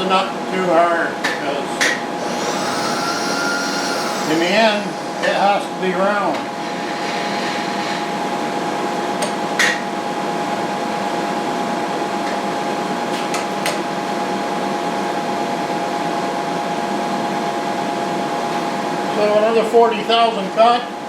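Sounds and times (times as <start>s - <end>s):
milling machine hum and whine: 0.0s - 21.0s.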